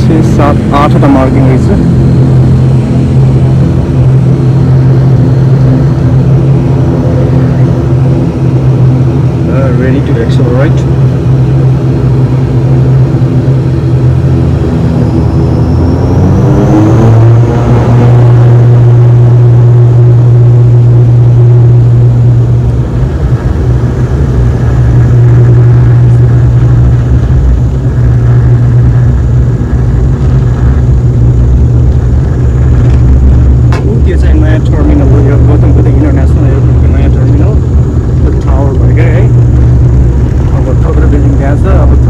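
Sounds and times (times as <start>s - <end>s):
propeller engines powering up: 0.0s - 42.0s
thin rising whine: 0.0s - 42.0s.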